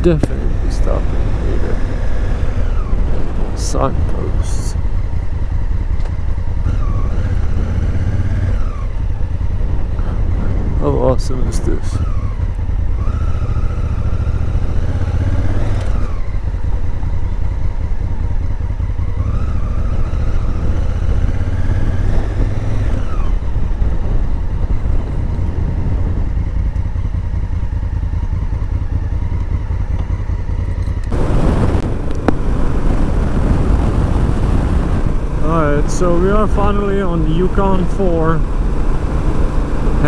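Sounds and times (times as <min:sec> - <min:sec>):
wind noise: 0:00.0 - 0:27.9, 0:30.7 - 0:40.0
motorcycle engine accelerating: 0:00.0 - 0:40.0.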